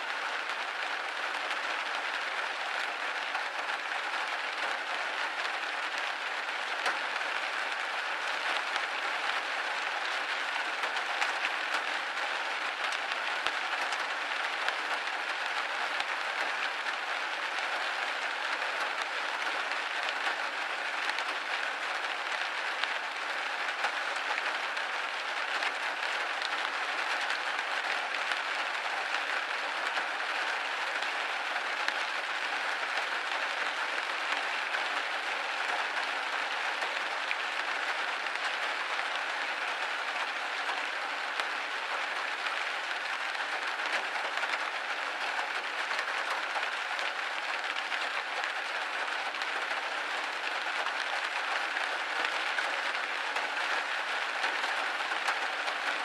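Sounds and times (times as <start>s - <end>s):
rain pattering on a window: 0.0s - 56.0s.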